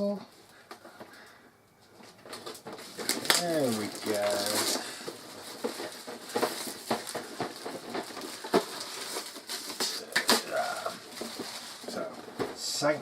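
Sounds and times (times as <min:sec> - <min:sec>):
clicks taps and rustles of plastic: 0:00.6 - 0:13.0
cardboard box being opened: 0:02.3 - 0:12.9.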